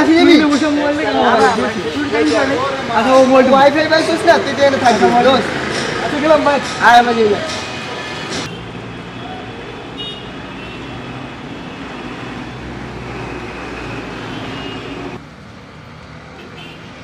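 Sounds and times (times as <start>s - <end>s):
vehicle engines running: 0.0s - 16.4s.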